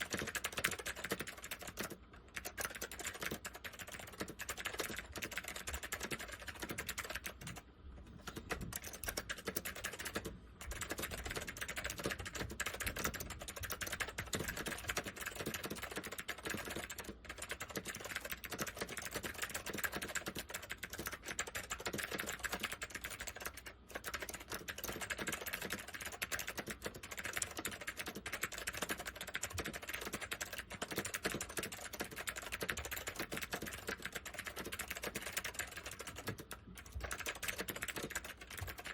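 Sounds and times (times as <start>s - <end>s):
clicky keyboard typing: 0.0s - 38.9s.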